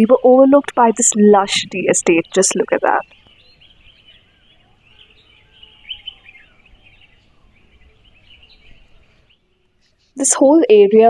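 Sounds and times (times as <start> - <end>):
small birds chirping: 0.0 - 10.5.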